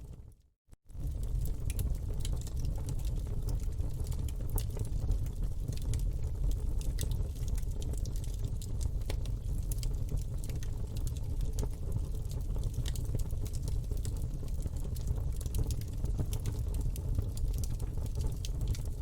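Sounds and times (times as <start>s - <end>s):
low rumble of flames: 0.0s - 19.0s
wood crackling and popping: 0.9s - 19.0s.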